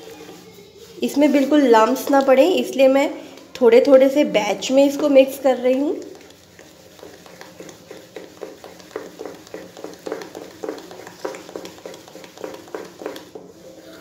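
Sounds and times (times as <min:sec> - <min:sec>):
spoon stirring batter in metal bowl: 0:00.0 - 0:14.0.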